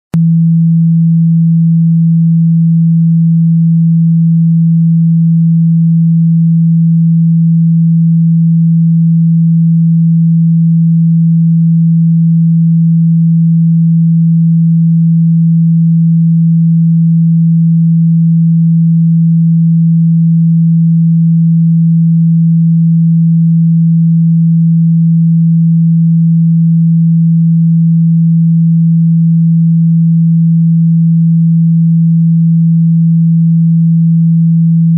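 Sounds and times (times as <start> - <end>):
steady sine tone: 0.1 - 34.9.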